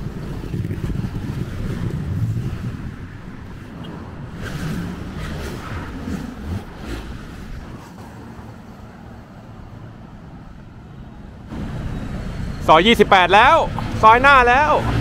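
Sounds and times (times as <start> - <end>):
cars passing on street: 0.0 - 15.0.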